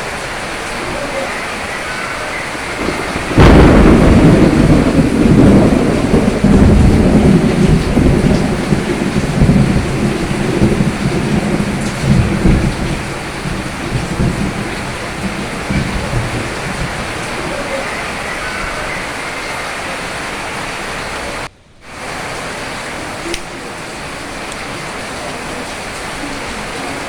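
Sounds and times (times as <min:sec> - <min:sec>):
steady rain: 0:00.0 - 0:27.0
thunder clap and rumble: 0:00.0 - 0:27.0.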